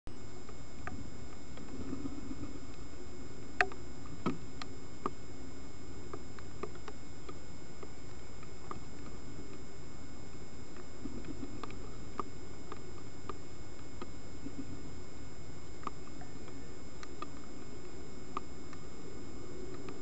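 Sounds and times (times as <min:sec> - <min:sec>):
faint electronic whine: 0:00.1 - 0:20.0
faint ticks and clicks: 0:00.1 - 0:20.0
microphone hiss: 0:00.1 - 0:20.0.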